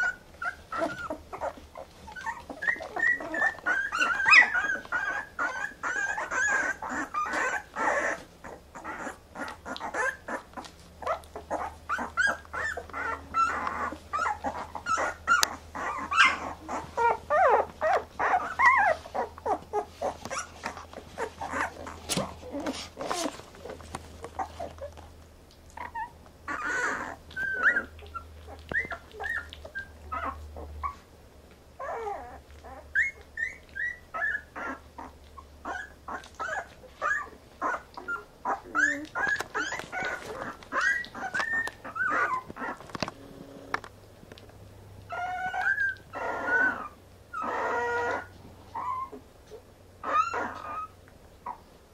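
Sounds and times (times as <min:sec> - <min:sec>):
puppies squeaking and whimpering: 0:00.0 - 0:31.1, 0:31.7 - 0:43.8, 0:44.9 - 0:51.7
small clicks and rustles: 0:00.0 - 0:31.7, 0:35.0 - 0:46.2.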